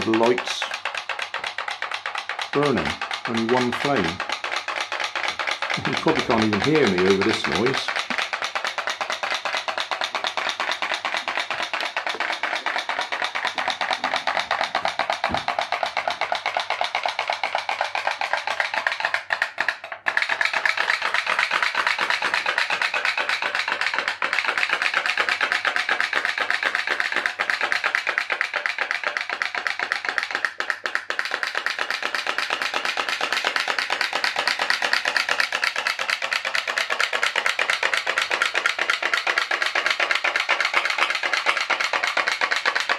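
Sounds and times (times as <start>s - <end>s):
pop-pop boat boiler popping: 0.0s - 42.9s.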